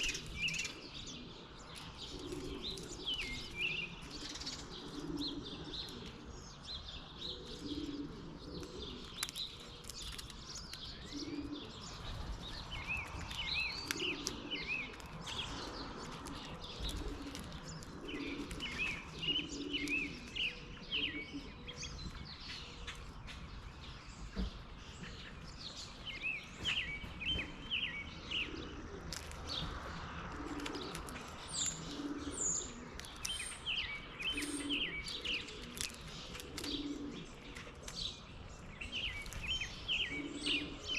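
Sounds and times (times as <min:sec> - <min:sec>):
pigeons cooing: 0:00.0 - 0:40.9
small birds chirping: 0:00.0 - 0:40.9.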